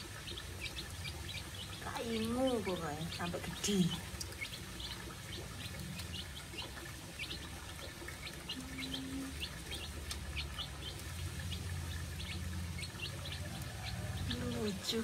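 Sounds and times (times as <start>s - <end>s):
chicks peeping: 0.0s - 15.0s
low steady hum: 0.0s - 15.0s.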